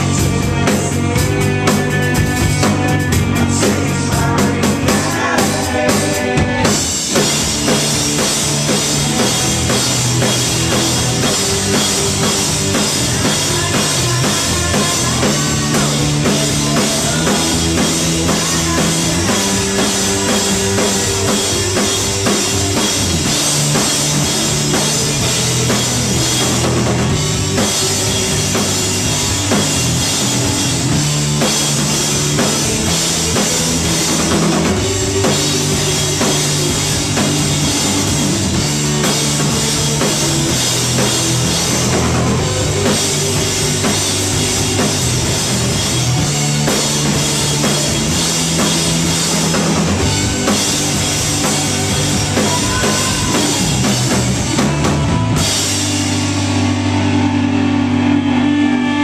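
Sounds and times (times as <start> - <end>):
drum kit with cymbals: 0.0 - 59.0
electric guitars: 0.0 - 59.0.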